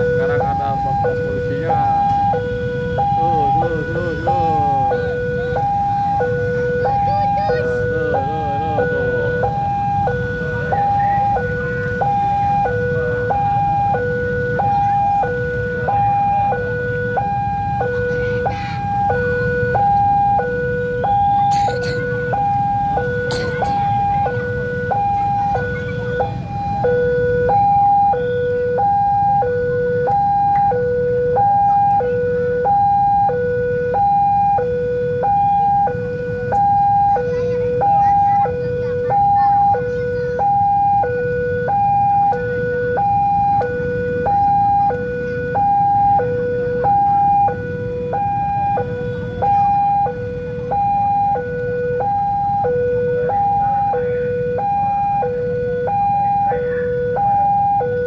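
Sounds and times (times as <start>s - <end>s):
level crossing two-tone alarm: 0.0s - 58.0s
road traffic rumble: 0.0s - 58.0s.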